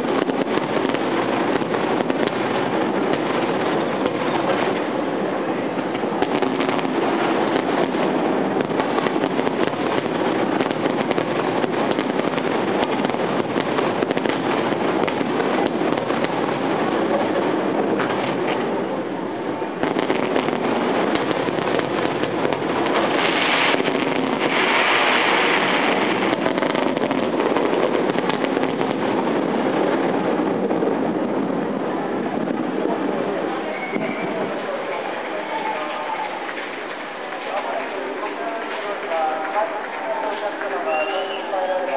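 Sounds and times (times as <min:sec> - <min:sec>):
fireworks exploding and crackling: 0:00.0 - 0:41.9.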